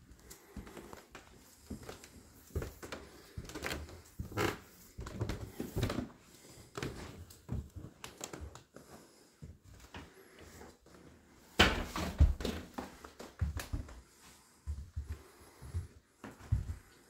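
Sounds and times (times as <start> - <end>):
footsteps on carpeted stairs: 0.0 - 17.0.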